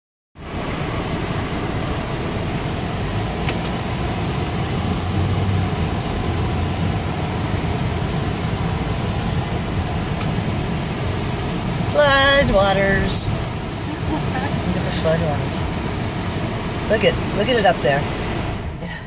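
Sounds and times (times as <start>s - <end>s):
car and tyres rumbling on wet road: 0.4s - 19.0s
heavy rain on car: 0.4s - 19.0s.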